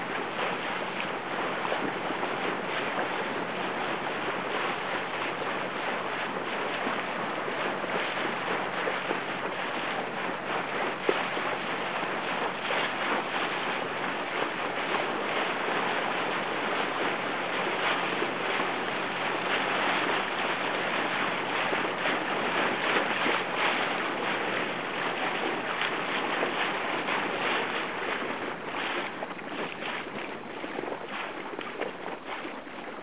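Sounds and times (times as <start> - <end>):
short water splashes: 0.0 - 33.0
water rushing: 0.0 - 33.0.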